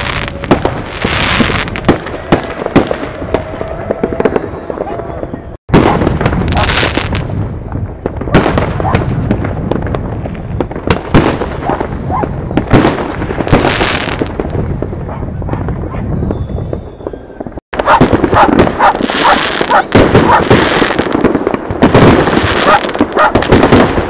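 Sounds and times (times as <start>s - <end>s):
fireworks crackling: 0.0s - 24.0s
heavy firework bangs: 0.0s - 24.0s.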